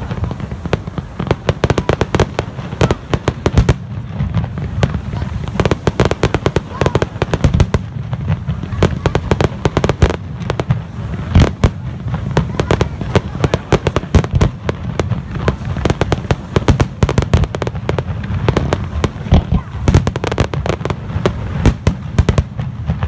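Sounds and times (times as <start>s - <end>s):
fireworks bursting and crackling: 0.0s - 23.0s
heavy firework bang: 0.0s - 23.0s.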